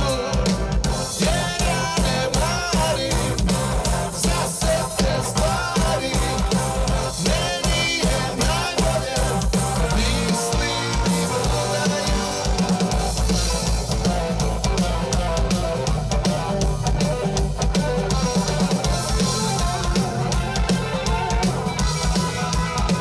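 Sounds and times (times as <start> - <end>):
drum kit hitting hard: 0.0 - 23.0
electric guitar: 0.0 - 23.0.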